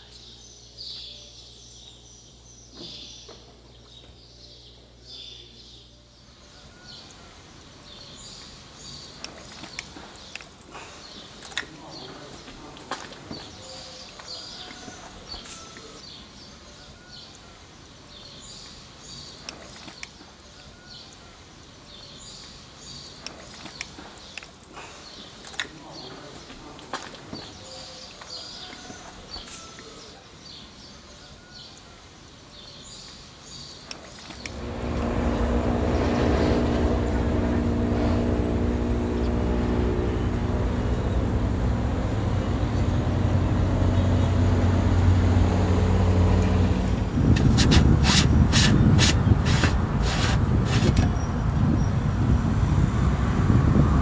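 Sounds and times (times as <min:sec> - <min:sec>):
birds chirping: 0:00.0 - 0:45.5.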